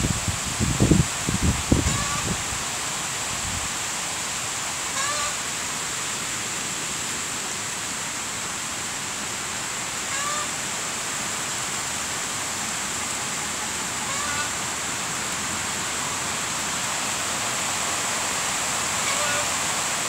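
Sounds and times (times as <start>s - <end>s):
rain on leafy vegetation: 0.0s - 20.0s.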